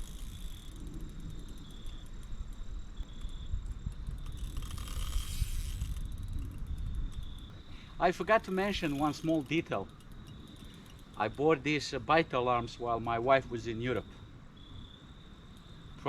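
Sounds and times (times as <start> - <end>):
fishing reel ticking: 0.0 - 13.2
faint insect chirping: 0.0 - 16.0.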